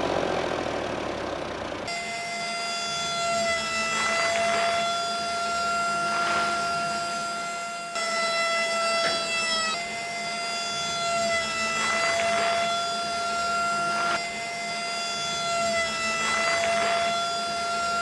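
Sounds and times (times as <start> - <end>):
small electric motor whining: 1.8 - 18.0.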